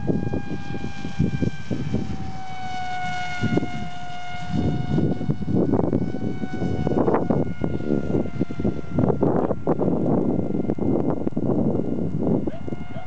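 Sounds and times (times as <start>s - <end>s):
model plane motor whining: 0.0s - 13.0s
wind buffeting microphone: 0.0s - 13.0s.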